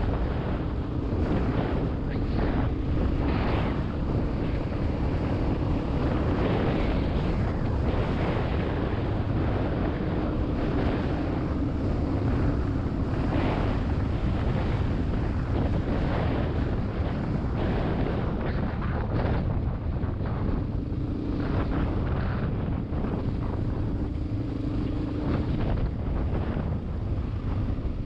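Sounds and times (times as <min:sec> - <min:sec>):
vehicle engine running: 0:00.0 - 0:28.0
wind buffeting microphone: 0:00.0 - 0:28.0.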